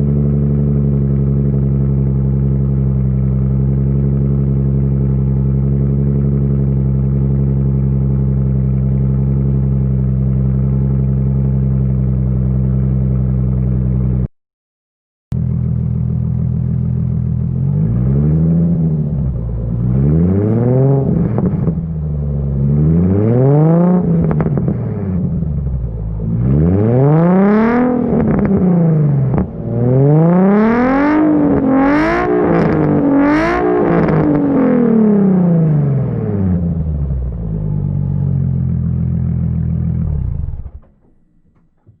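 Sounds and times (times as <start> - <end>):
car engine idling and revving: 0.0 - 14.3, 15.3 - 42.0.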